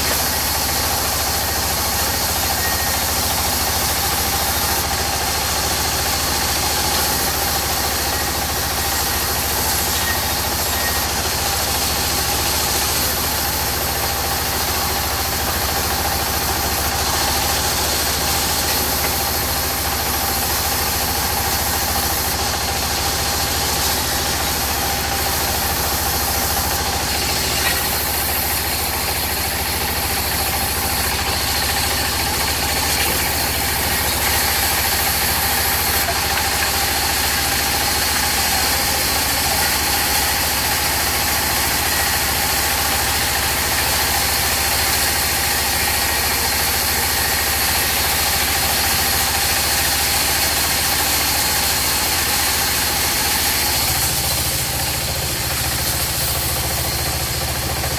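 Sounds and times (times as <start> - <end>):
circular saw cutting plank: 0.0 - 57.9.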